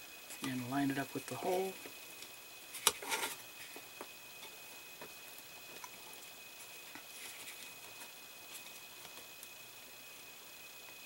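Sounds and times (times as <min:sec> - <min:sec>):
faint handling rustles and ticks: 0:00.2 - 0:09.5.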